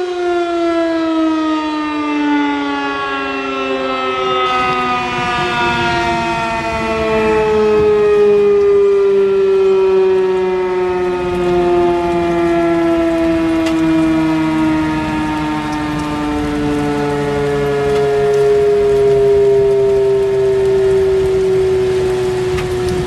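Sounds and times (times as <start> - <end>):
warning siren falling tone: 0.0 - 23.0.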